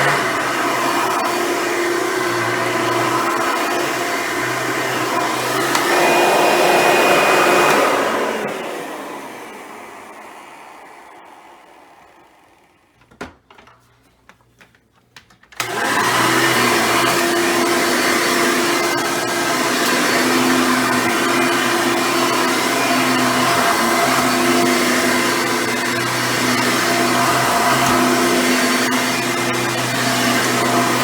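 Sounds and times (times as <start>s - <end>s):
vacuum cleaner motor running: 0.0s - 12.9s, 15.6s - 31.0s.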